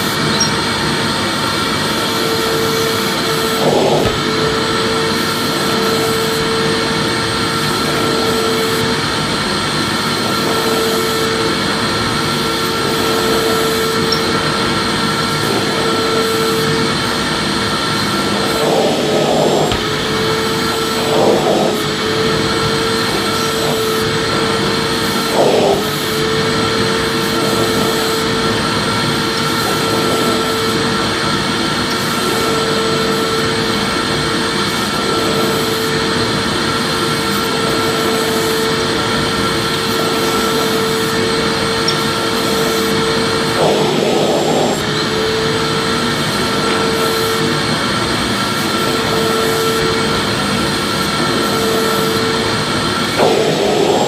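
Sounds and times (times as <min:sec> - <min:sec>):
vacuum cleaner motor whining: 0:00.0 - 0:54.0.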